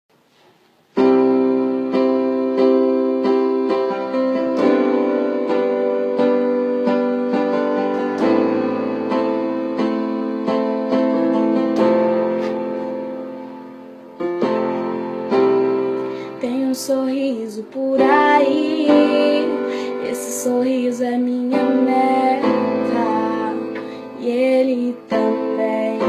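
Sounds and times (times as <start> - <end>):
piano chords: 0.8 - 26.0.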